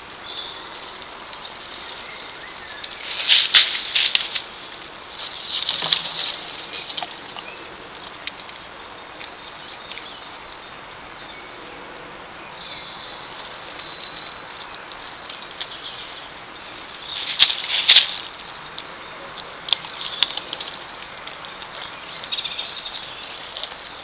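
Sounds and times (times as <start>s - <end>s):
steady hiss: 0.0s - 24.0s
woodland birds calling: 0.0s - 24.0s.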